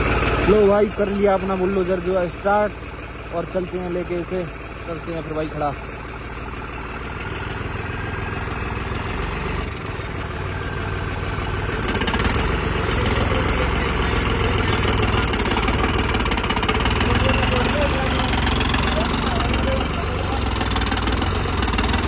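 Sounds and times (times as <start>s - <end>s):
tractor diesel engine revving: 0.0s - 22.0s.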